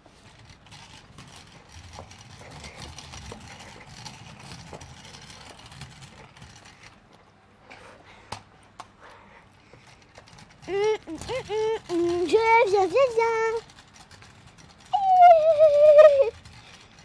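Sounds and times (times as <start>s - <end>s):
scooter wheels rolling on hard floor: 0.0s - 17.0s.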